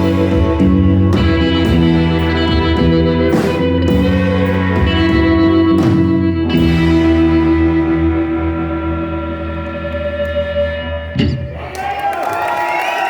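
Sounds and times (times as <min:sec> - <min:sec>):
electric guitar chords: 0:00.0 - 0:11.7
live rock band playing: 0:00.0 - 0:11.7.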